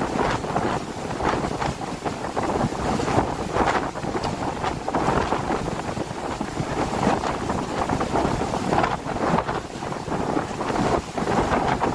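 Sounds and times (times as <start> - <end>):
wind on microphone: 0.0 - 11.9.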